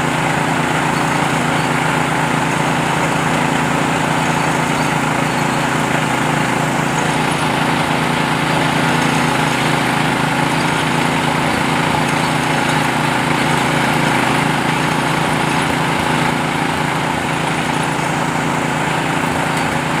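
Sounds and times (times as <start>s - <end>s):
drilling machine engine running: 0.0s - 20.0s.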